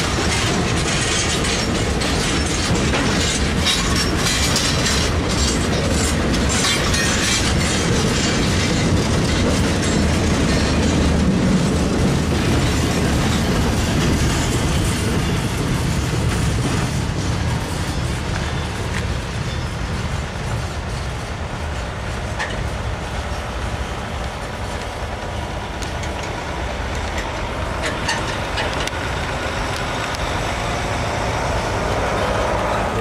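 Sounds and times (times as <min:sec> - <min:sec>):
train cars clanking: 0:00.0 - 0:33.0
train wheels rumbling on rail: 0:00.0 - 0:33.0.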